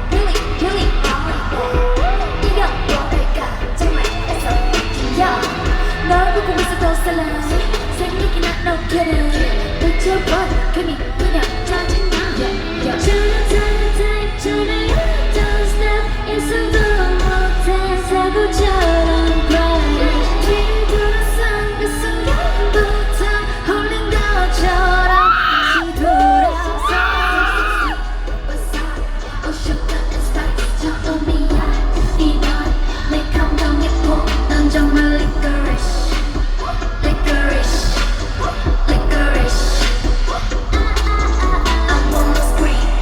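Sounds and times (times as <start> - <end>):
pop backing track with heavy bass: 0.0 - 43.0
women singing live: 0.0 - 43.0.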